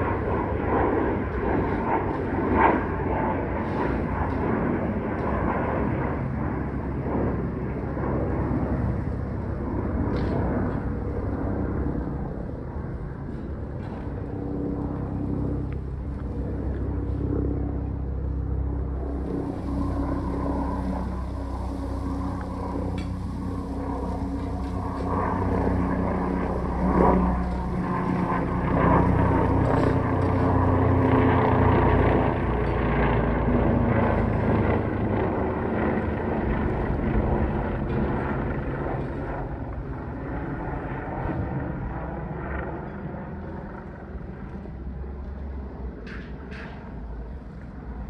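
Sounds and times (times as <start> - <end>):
helicopter flying overhead: 0.0 - 48.0.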